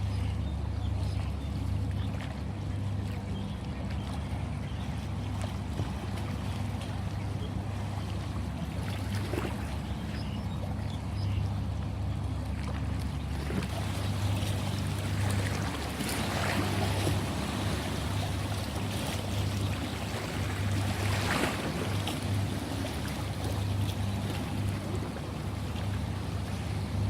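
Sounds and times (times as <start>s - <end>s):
steady low hum: 0.0s - 27.0s
ocean waves washing: 0.9s - 27.0s.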